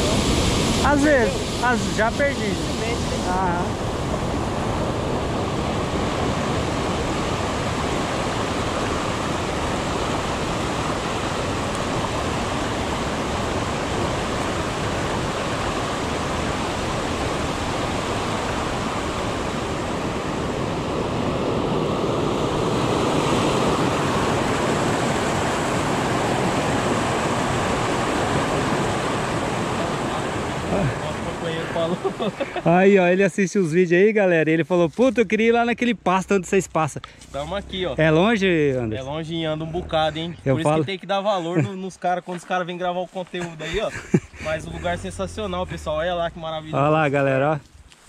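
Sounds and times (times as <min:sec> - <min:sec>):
waterfall and stream rushing: 0:00.0 - 0:48.0.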